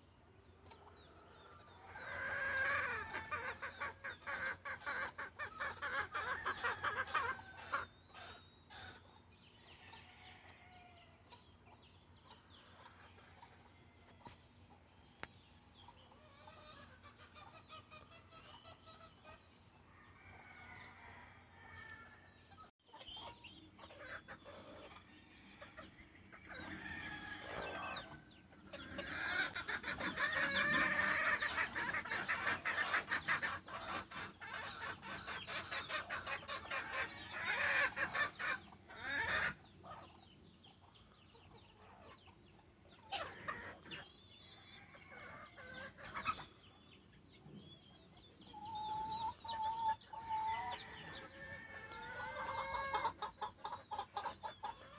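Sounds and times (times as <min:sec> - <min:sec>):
chickens clucking and crowing: 0:00.0 - 0:54.9.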